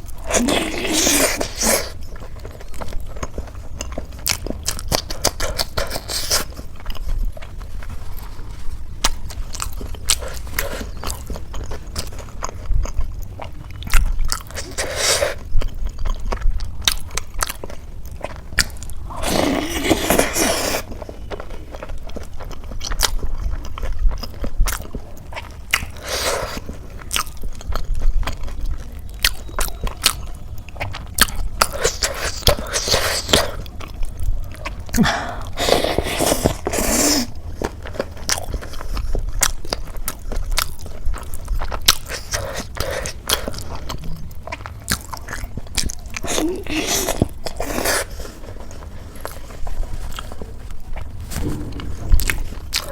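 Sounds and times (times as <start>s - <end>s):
person chewing crunchy food: 0.0s - 52.9s
crunching bites: 9.0s - 52.9s.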